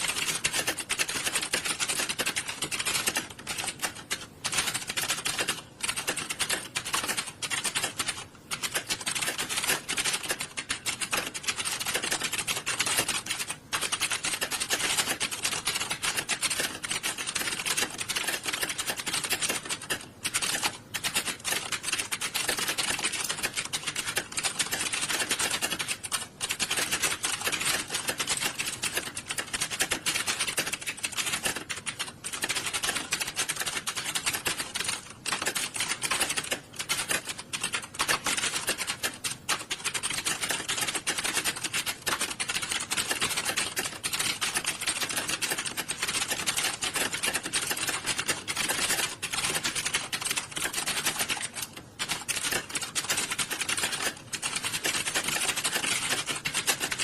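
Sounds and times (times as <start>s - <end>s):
many keyboards clattering: 0.0s - 57.0s.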